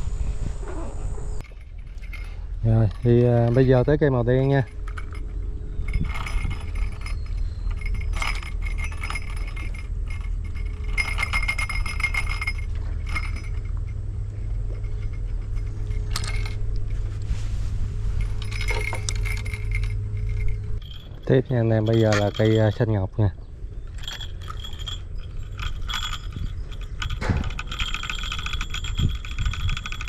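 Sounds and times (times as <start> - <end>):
steady low hum: 0.0 - 30.0
metallic jingling and clinking: 1.4 - 17.2, 18.0 - 30.0.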